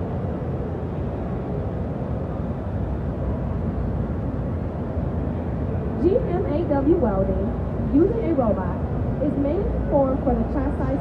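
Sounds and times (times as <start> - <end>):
exhibition hall background rumble: 0.0 - 11.0.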